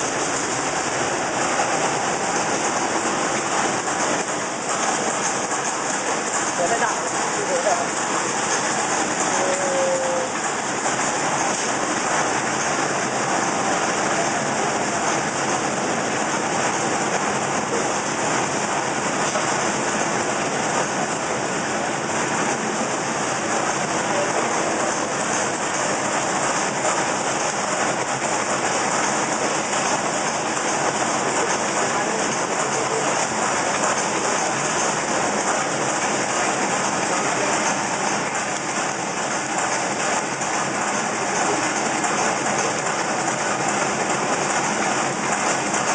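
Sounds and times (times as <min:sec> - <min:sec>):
factory machinery running: 0:00.0 - 0:45.9.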